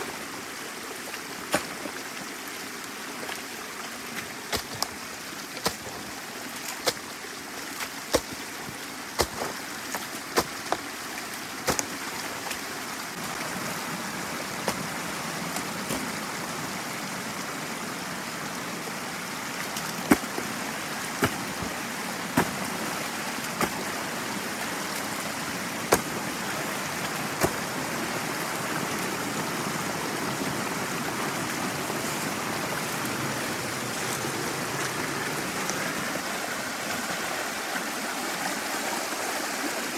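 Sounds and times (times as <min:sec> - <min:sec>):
water rushing through dam: 0:00.0 - 0:39.9.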